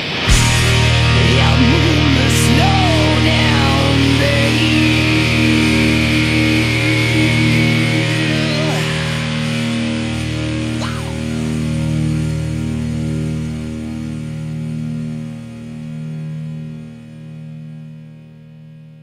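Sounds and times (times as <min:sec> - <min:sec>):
glam metal song: 0:00.0 - 0:18.2
low bass line: 0:00.0 - 0:18.8
electric guitars: 0:00.0 - 0:19.0.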